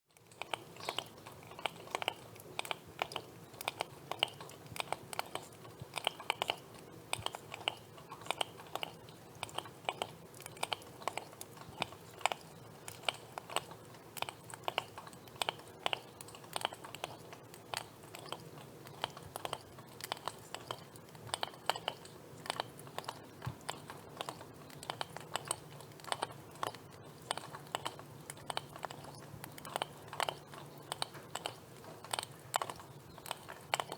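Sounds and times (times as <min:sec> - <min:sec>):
lobster clicking and crunching: 0:00.1 - 0:33.9.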